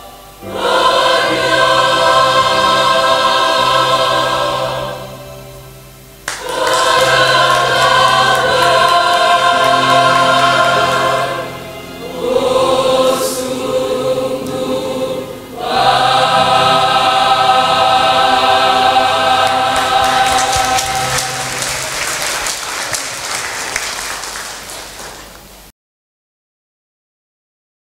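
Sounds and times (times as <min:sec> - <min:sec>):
women's choir singing a hymn: 0:00.0 - 0:23.9.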